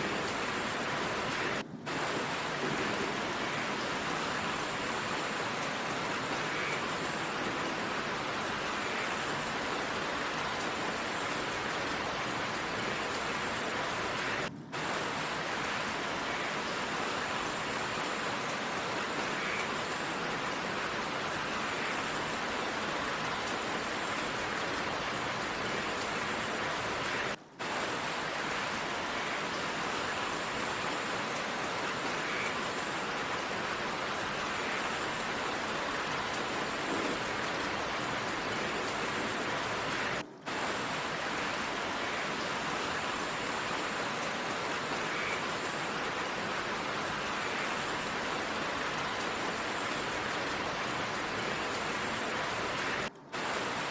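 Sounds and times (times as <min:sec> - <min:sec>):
heavy rain: 0:00.0 - 0:53.9.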